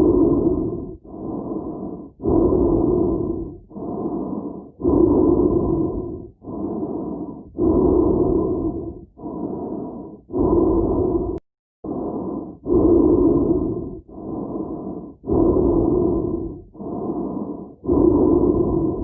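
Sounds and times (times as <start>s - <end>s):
muffled breathing inside helmet: 0.0s - 19.0s.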